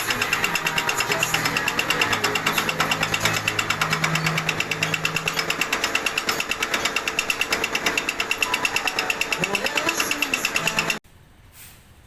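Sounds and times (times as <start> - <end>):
milling machine rhythmic clatter: 0.0 - 11.0.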